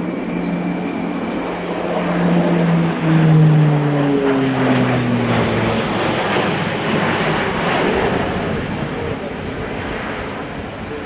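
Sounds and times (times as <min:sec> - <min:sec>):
loud propeller aircraft drone: 0:00.0 - 0:11.0.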